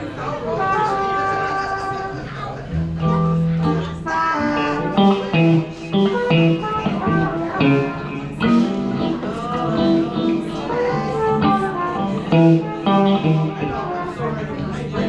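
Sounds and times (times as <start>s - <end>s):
electric guitar single notes: 2.7s - 15.0s.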